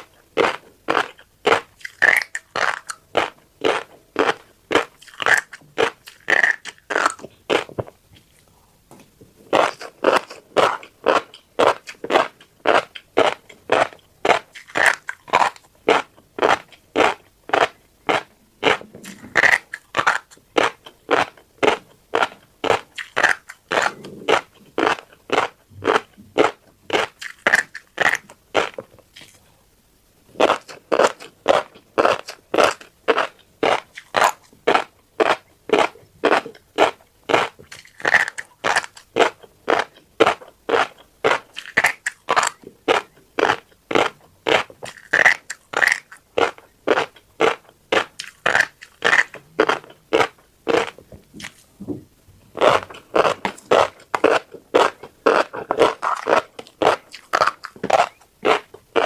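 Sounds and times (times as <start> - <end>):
chewing crunchy seeds: 0.0 - 8.5, 9.5 - 29.5, 30.4 - 51.8, 52.5 - 59.0.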